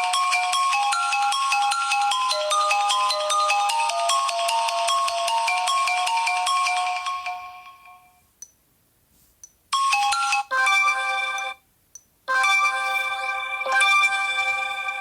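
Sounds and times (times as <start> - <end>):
chiming melodic ringtone: 0.0 - 8.1, 9.8 - 11.6, 12.3 - 15.0.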